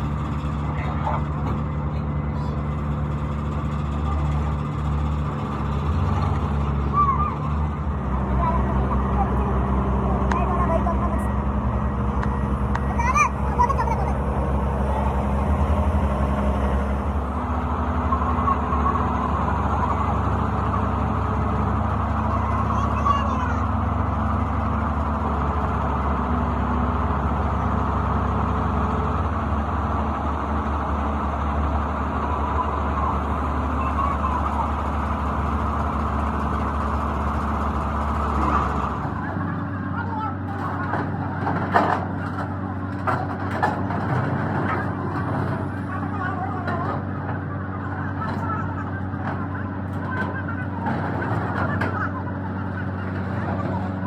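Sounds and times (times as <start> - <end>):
engine droning: 0.0 - 54.0
faint voices: 0.0 - 54.0.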